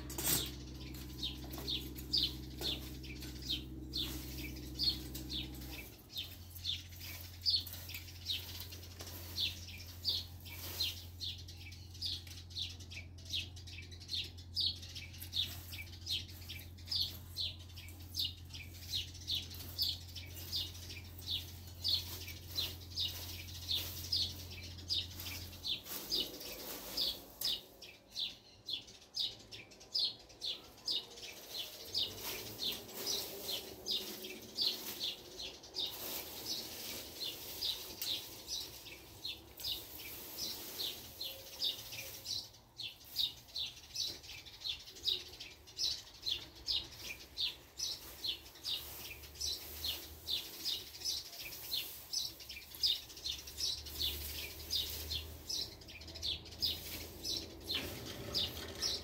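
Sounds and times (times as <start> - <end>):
rake scraping over dry dirt: 0.0 - 12.7, 14.6 - 28.6, 30.9 - 44.4, 45.8 - 59.0.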